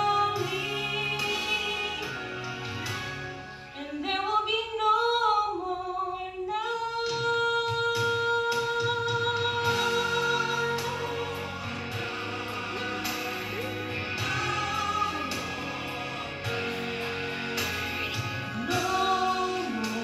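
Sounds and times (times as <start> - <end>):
woman singing: 0.0 - 2.5, 3.8 - 16.6, 17.6 - 20.0.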